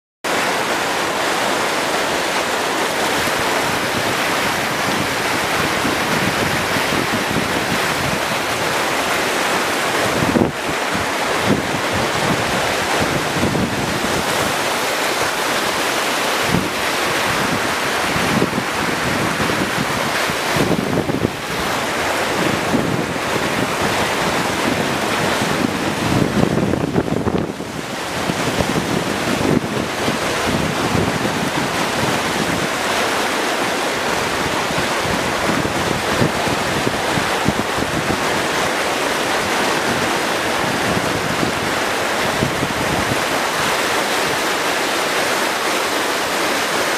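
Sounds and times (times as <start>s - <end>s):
floodwater rushing: 0.3s - 46.9s.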